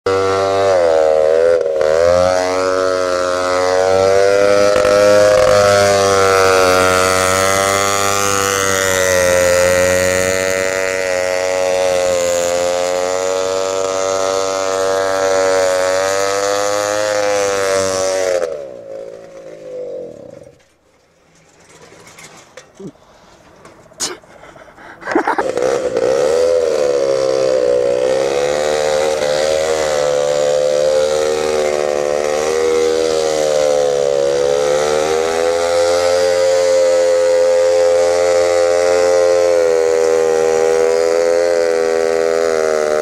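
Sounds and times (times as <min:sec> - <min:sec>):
small engine whining: 0:00.0 - 0:43.0.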